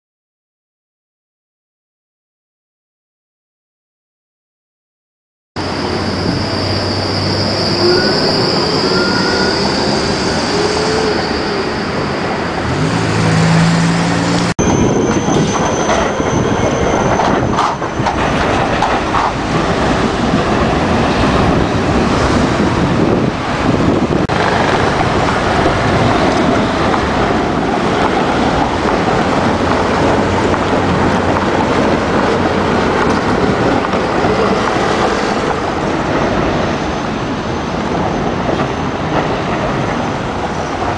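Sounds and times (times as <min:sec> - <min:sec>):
city traffic noise: 0:05.6 - 0:40.9
tram drive whining: 0:05.6 - 0:40.9
tram rolling: 0:05.6 - 0:40.9
tram wheel squeal: 0:05.6 - 0:40.9.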